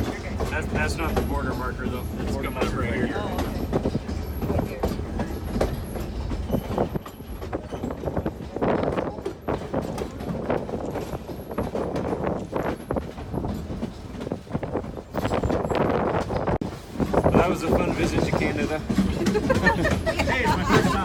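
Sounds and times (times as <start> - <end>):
clatter of wheels and couplings: 0.0 - 21.0
train rolling along track: 0.0 - 21.0.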